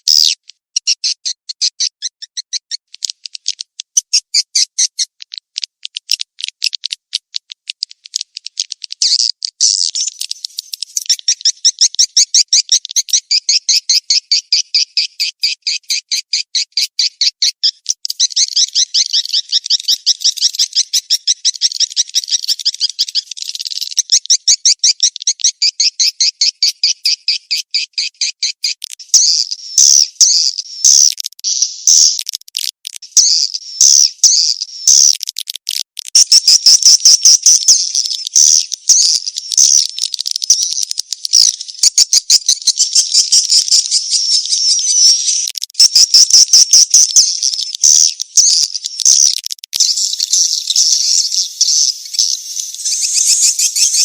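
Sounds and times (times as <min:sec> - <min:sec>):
bird chirps and twittering: 0:00.0 - 0:35.4, 0:36.1 - 0:54.0.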